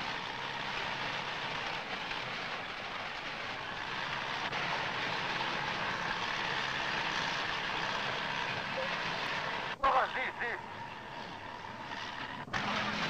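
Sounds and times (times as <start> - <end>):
loader engine rumbling and clattering: 0.0 - 13.0.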